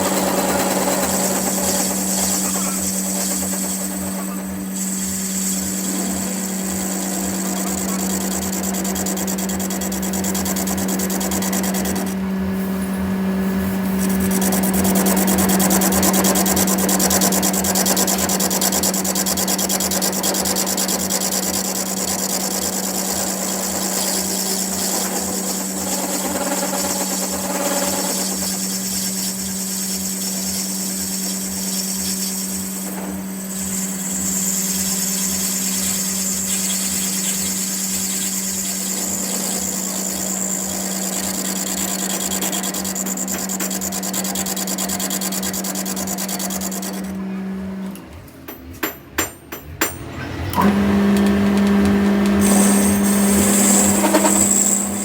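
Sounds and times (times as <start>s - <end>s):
fast mechanical chatter: 0.0s - 47.6s, 51.2s - 55.0s
workshop machine humming: 0.0s - 55.0s.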